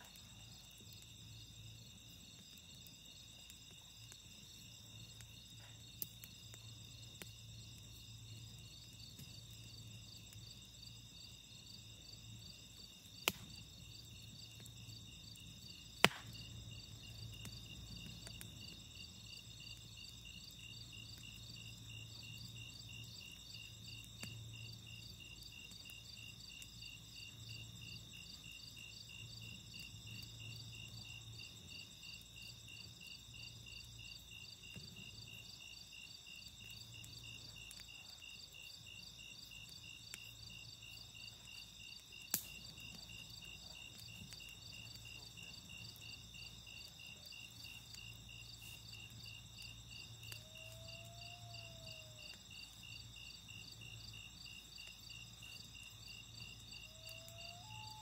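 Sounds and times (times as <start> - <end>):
campfire popping and crackling: 0.0 - 58.0
crickets chirping: 0.0 - 58.0.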